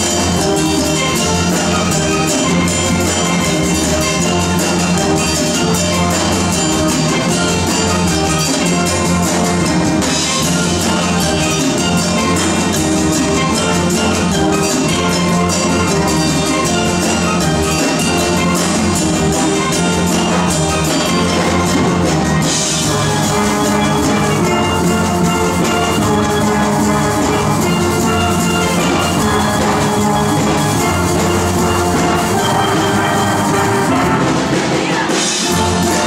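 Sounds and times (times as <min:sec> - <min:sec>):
steel band playing: 0:00.0 - 0:36.0.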